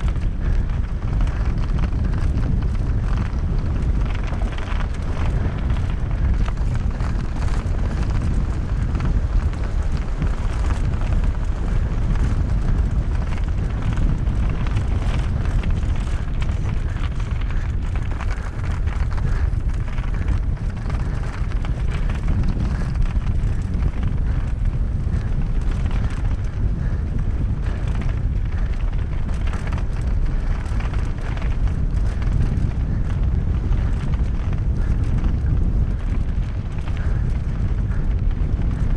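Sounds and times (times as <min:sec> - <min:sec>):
bike rattling and knocking: 0:00.0 - 0:38.9
tyre noise on dirt trail: 0:00.0 - 0:38.9
wind on microphone: 0:00.0 - 0:38.9.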